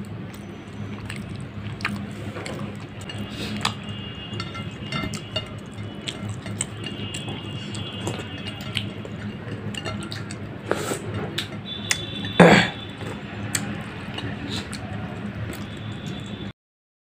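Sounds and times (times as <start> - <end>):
low steady hum: 0.0 - 16.5.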